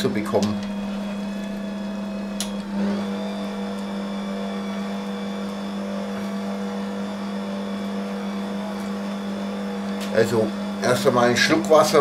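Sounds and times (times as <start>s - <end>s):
stand mixer motor hum: 0.0s - 12.0s.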